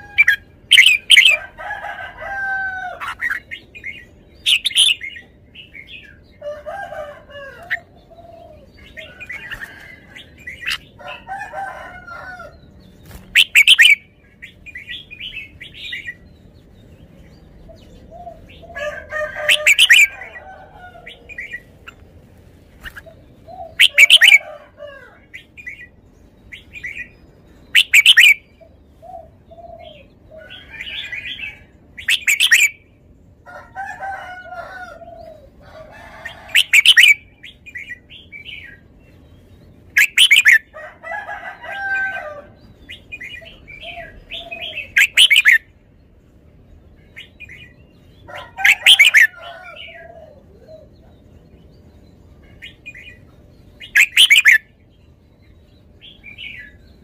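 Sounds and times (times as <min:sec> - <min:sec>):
bird singing loud song phrases: 0:00.0 - 0:22.0, 0:22.7 - 0:57.0.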